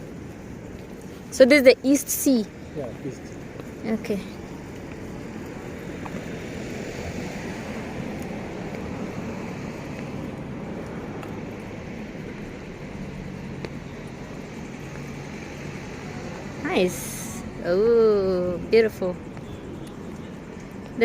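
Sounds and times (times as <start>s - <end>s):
street traffic: 0.0s - 21.0s
low engine hum: 2.4s - 21.0s.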